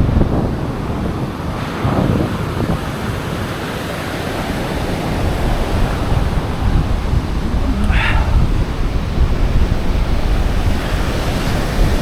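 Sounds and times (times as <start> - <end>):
waves breaking on beach: 0.0 - 12.0
wind buffeting microphone: 0.0 - 12.0.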